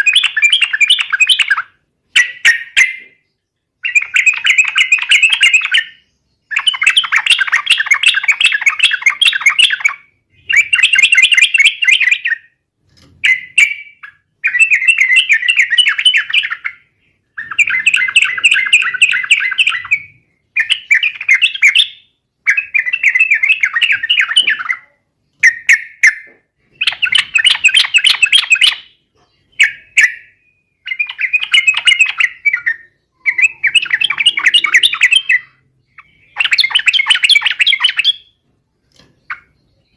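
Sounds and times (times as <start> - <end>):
bird singing chattering phrases: 0.0 - 12.6, 13.2 - 39.9.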